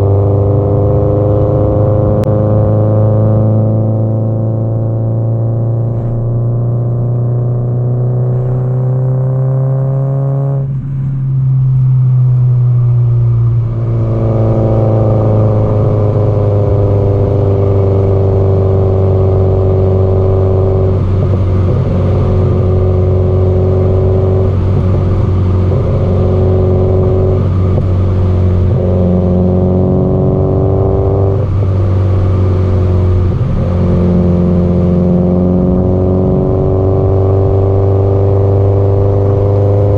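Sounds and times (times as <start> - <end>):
car engine exhaust note: 0.0 - 39.9.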